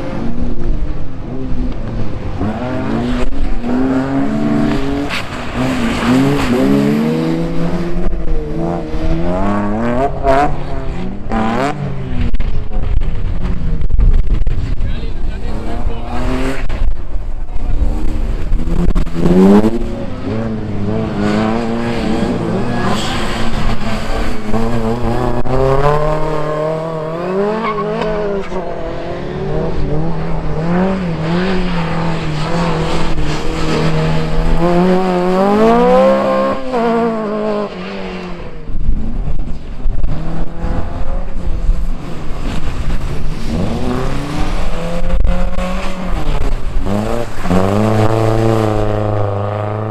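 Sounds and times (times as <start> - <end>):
race car engines revving: 0.0 - 49.9.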